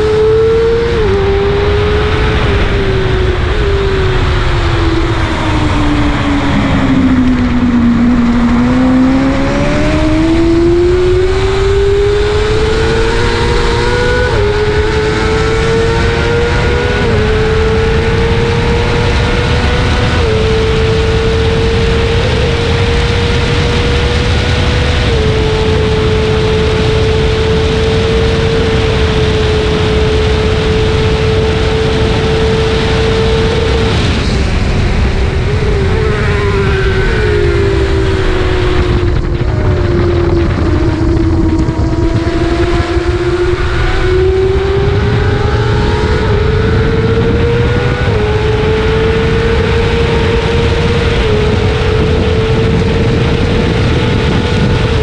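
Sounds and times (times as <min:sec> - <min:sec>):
motorcycle engine at high revs: 0:00.0 - 0:55.0
wind and road noise: 0:00.0 - 0:55.0.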